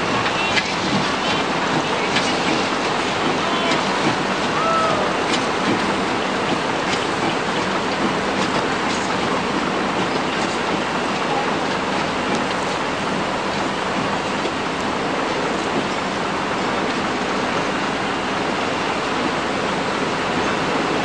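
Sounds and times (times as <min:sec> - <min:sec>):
wagons clicking: 0:00.0 - 0:17.1.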